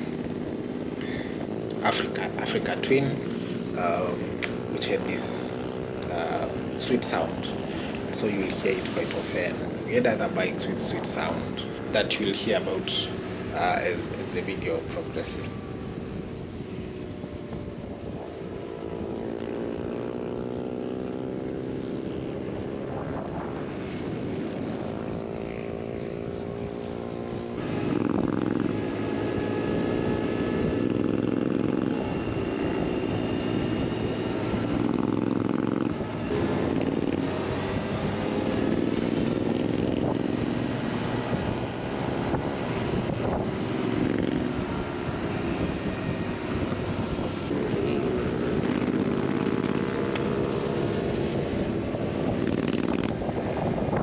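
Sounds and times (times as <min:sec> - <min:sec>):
wind rush: 0:00.0 - 0:20.4, 0:21.5 - 0:54.0
motorcycle engine accelerating: 0:00.0 - 0:54.0.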